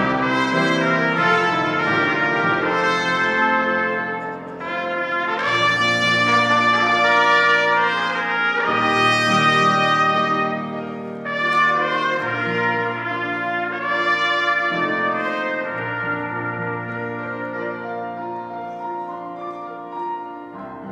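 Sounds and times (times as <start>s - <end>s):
grand piano accompaniment: 0.0s - 20.9s
trumpets playing slow melody: 0.0s - 20.9s.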